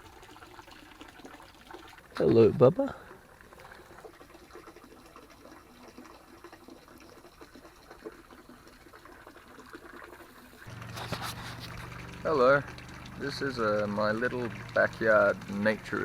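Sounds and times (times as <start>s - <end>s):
trickling splashing pond water: 0.0s - 16.0s.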